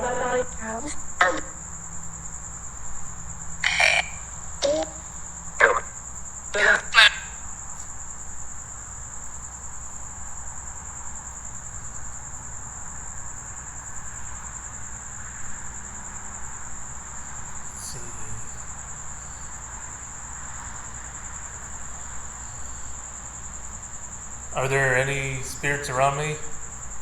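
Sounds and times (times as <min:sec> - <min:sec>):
crickets trilling: 0:00.0 - 0:27.0
short loud cricket calls: 0:00.0 - 0:27.0.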